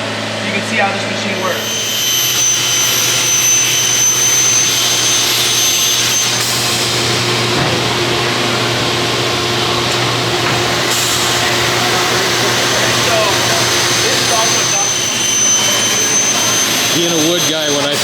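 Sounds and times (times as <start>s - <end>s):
saw motor and extraction rush: 0.8s - 18.0s.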